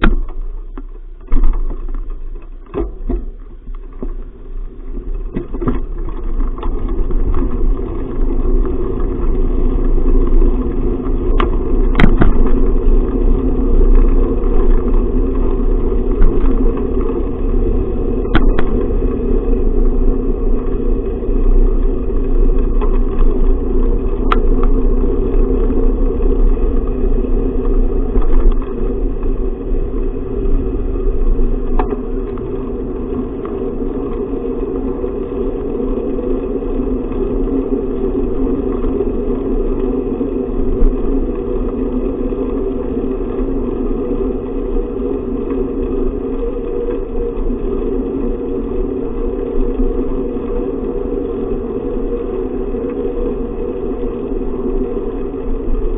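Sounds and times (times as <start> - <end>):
bicycle riding rumble: 0.0 - 55.9
wind noise on microphone: 0.0 - 55.9.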